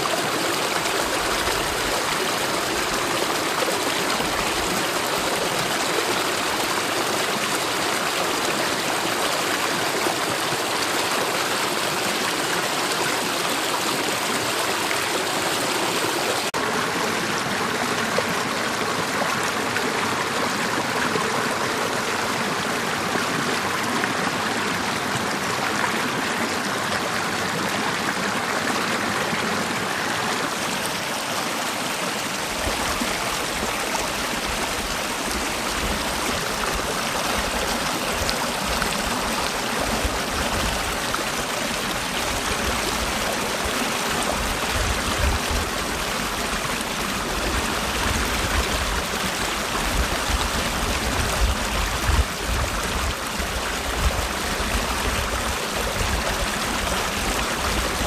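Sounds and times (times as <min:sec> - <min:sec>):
stream rushing water: 0:00.0 - 0:58.0.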